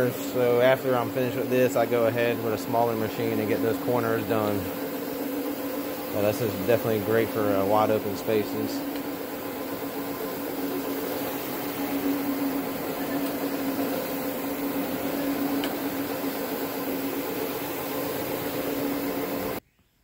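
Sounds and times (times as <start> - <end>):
carpet scrubbing machine hum: 0.0 - 19.6.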